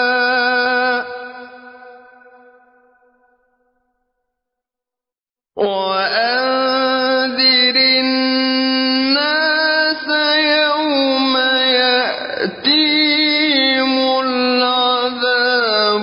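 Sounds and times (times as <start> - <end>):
man chanting melodically: 0.0 - 2.5, 5.6 - 16.0.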